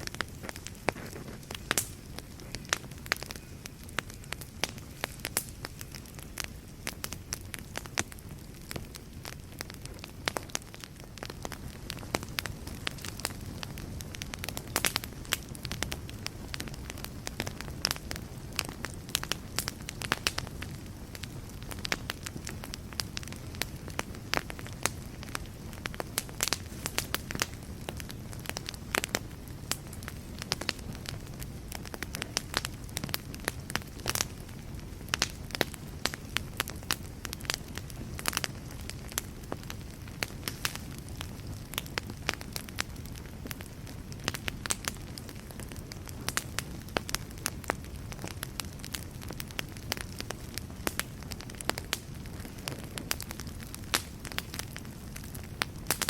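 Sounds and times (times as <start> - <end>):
fire crackling and popping: 0.0 - 56.0
flames rushing: 0.0 - 56.0.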